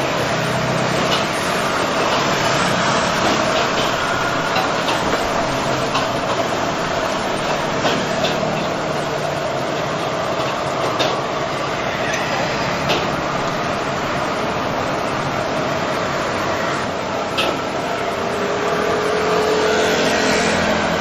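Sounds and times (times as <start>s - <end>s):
gas burner rushing: 0.0s - 21.0s.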